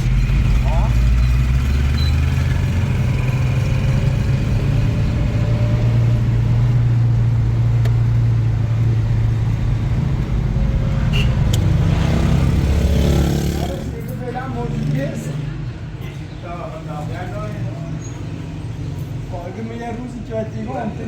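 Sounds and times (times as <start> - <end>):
vehicle rumbling on the move: 0.0 - 20.2.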